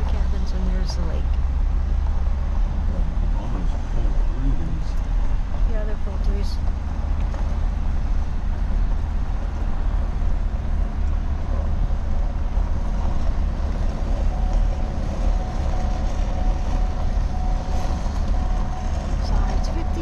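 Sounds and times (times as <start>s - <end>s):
vehicle rumble from inside cab: 0.0s - 20.0s.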